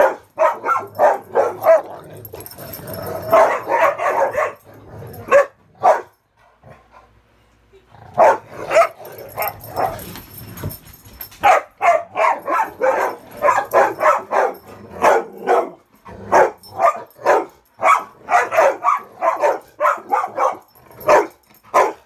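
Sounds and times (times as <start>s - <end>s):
dogs barking in play: 0.0s - 7.3s, 8.0s - 22.0s.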